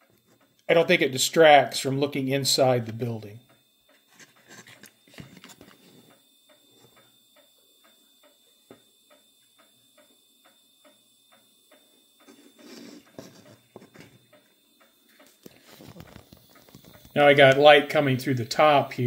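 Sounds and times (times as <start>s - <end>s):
faint regular ticking: 0.0s - 19.0s.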